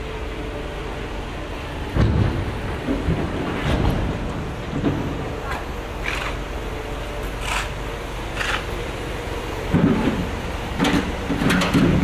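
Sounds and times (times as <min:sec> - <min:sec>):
low engine rumble: 0:00.0 - 0:12.0
vehicle engines running: 0:00.0 - 0:12.0.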